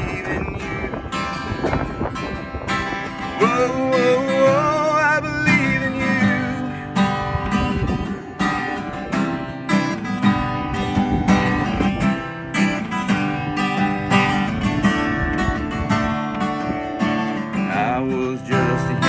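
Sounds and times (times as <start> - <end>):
acoustic guitar strumming: 0.0 - 19.0
wind rumble on microphone: 0.0 - 19.0.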